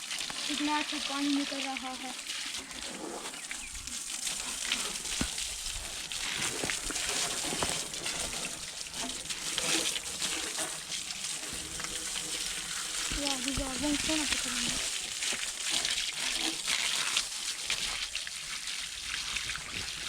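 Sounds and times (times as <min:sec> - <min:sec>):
water gushing and splashing: 0:00.0 - 0:20.0.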